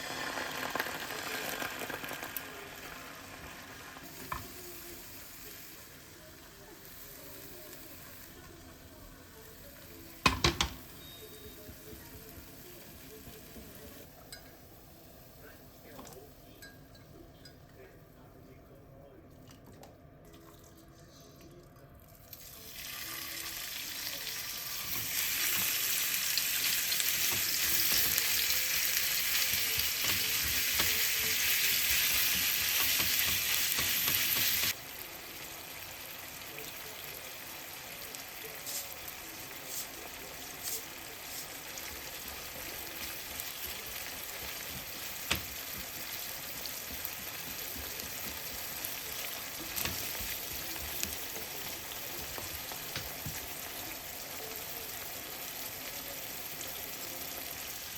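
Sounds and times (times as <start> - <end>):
food sizzling in a frying pan: 0.0 - 16.9, 22.2 - 57.9.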